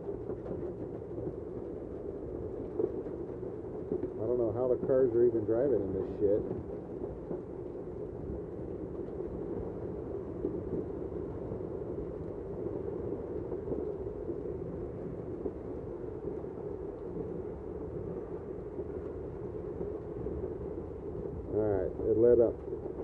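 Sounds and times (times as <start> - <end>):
hail and heavy rain falling: 0.1 - 23.0.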